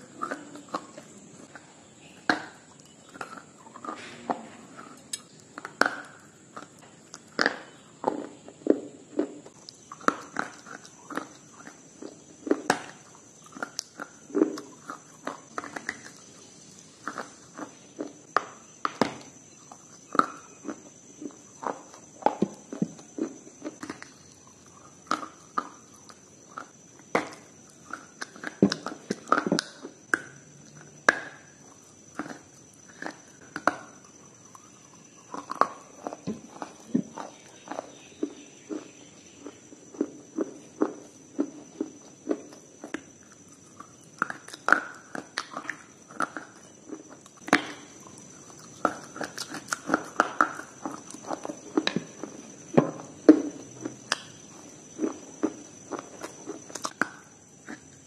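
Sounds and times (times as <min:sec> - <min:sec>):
chewing and mouth sounds: 0:00.0 - 0:58.0
crunchy food bites: 0:00.0 - 0:58.0
steady high-pitched hiss: 0:00.0 - 0:58.0.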